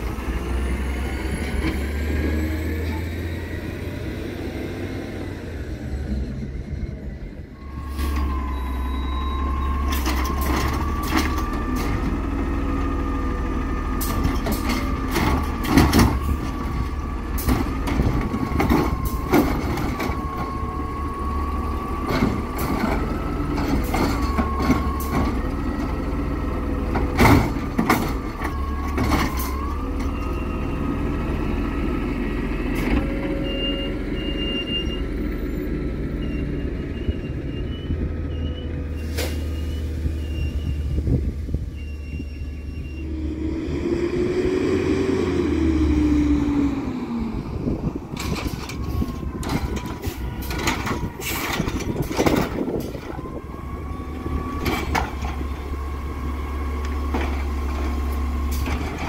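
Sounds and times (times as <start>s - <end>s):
garbage truck engine rumble: 0.0s - 59.0s.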